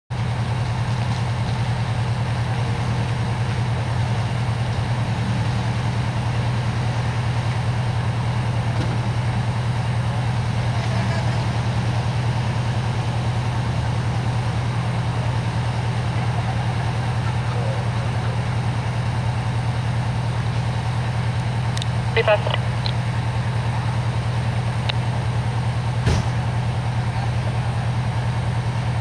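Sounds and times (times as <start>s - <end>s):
diesel engine idling: 0.1s - 29.0s.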